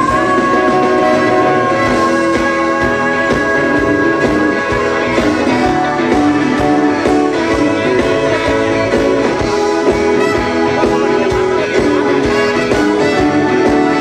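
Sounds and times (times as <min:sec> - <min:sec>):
live band playing soul music: 0:00.0 - 0:14.0.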